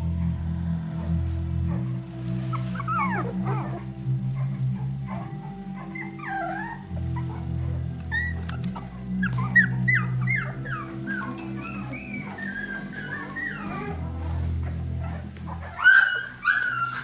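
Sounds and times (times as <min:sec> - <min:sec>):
background music: 0:00.0 - 0:17.0
puppies whimpering and squealing: 0:01.7 - 0:17.0.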